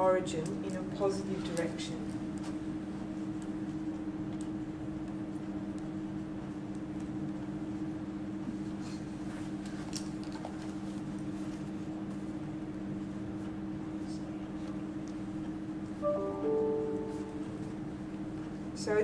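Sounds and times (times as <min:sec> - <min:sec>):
room hum with low tones: 0:00.0 - 0:19.0.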